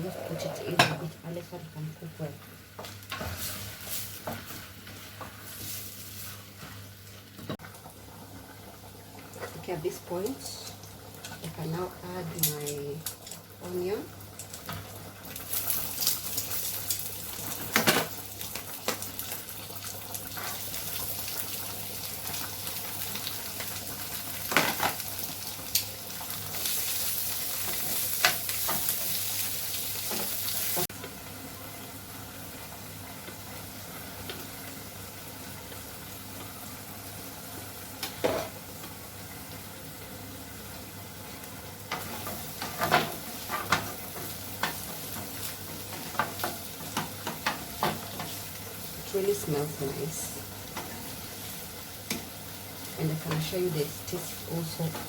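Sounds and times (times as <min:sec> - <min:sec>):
meat sizzling in frying pan: 0:02.0 - 0:55.0.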